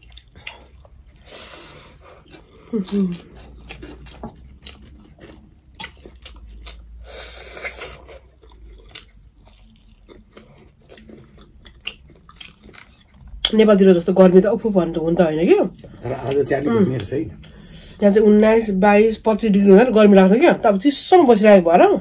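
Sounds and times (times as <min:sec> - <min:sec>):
people chewing food: 0:00.0 - 0:21.9.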